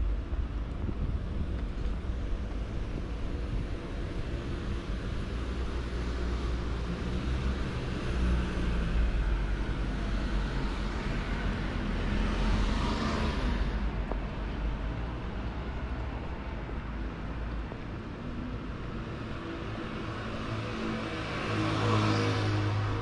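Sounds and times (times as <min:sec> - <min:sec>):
car engines rumbling: 0:00.0 - 0:23.0.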